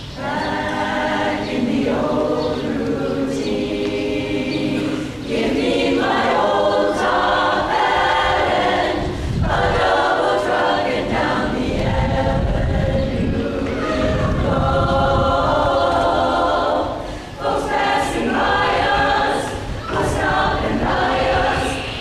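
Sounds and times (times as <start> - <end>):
women's chorus singing: 0.0 - 22.0.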